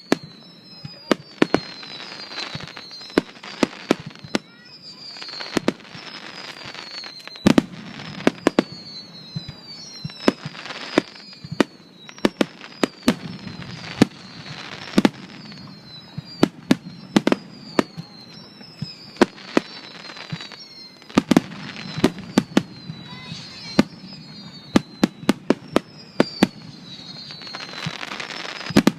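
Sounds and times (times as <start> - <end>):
fireworks crackle: 0.0 - 28.9.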